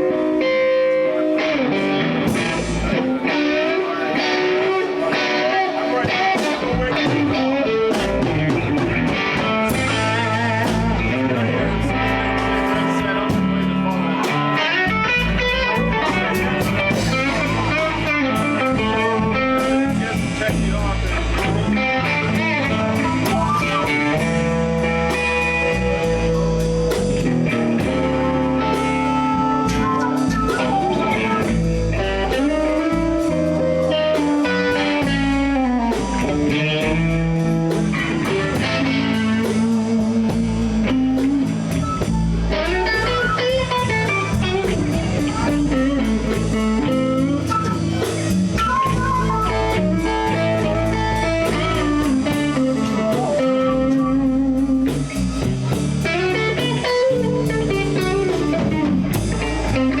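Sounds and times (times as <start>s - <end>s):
bent electric guitar lead: 0.0s - 60.0s
blues band playing: 0.0s - 60.0s.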